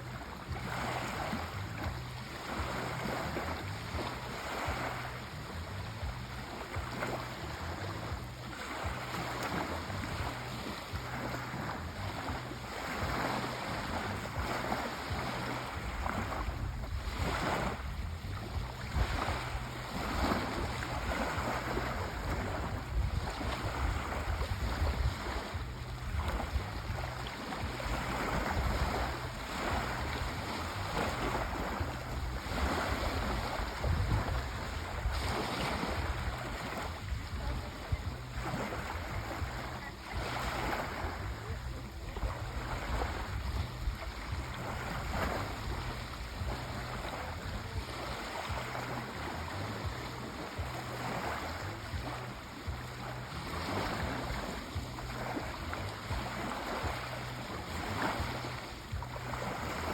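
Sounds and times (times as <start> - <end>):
sea waves washing onto shore: 0.0 - 59.9.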